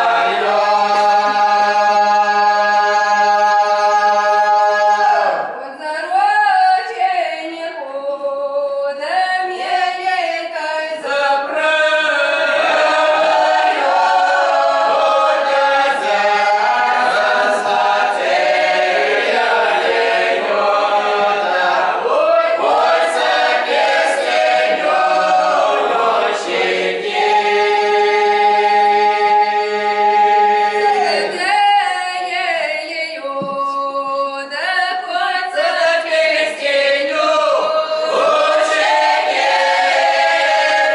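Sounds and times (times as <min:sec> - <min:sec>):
mixed choir singing unaccompanied: 0:00.0 - 0:05.6, 0:09.2 - 0:32.7, 0:34.9 - 0:40.9.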